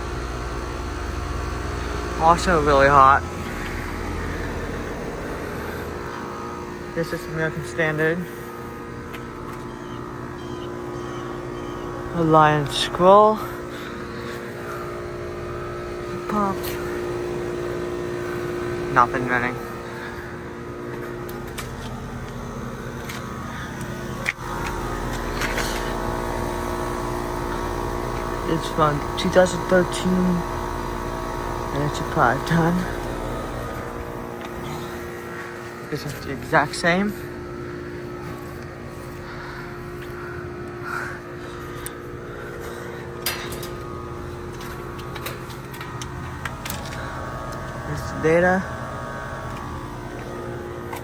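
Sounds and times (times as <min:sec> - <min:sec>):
heat pump compressor and fan hum: 0:00.0 - 0:51.0.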